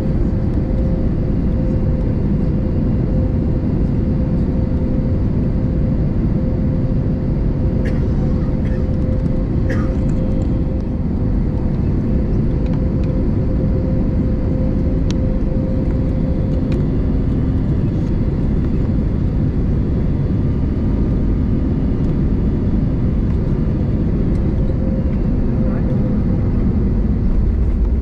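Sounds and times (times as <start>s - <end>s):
airplane cabin rumble and hum: 0.0s - 28.0s.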